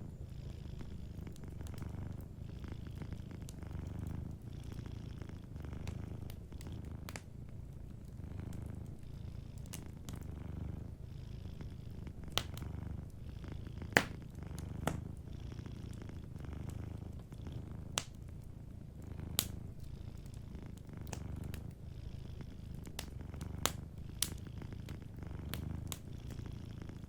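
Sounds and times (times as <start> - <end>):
cat purring: 0.0 - 27.0
wood fire crackling: 0.7 - 27.0.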